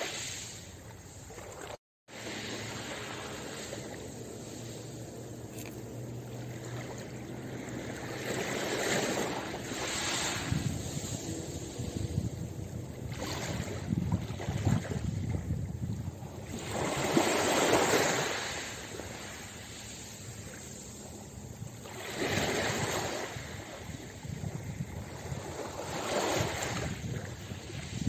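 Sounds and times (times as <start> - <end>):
waves washing over pebbles: 0.0 - 28.0.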